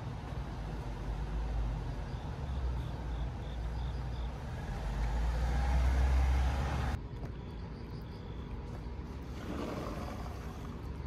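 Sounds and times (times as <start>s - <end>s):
outdoor ambience: 0.0s - 11.0s
vehicle passing with low rumble: 0.0s - 11.0s.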